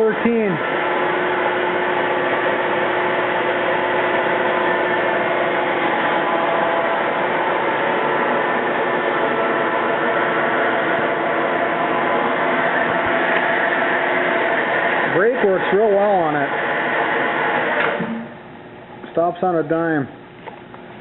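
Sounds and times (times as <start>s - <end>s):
lathe running with steady tones: 0.0s - 18.5s.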